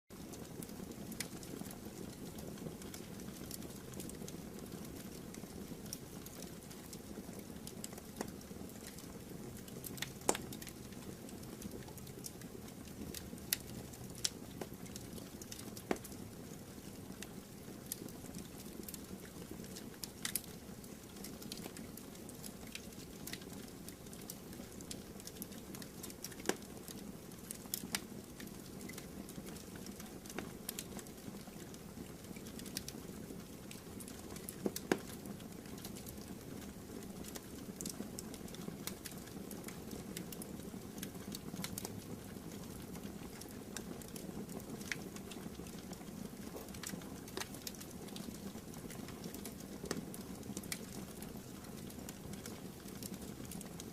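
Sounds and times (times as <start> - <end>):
wood crackling and popping: 0.1 - 53.9.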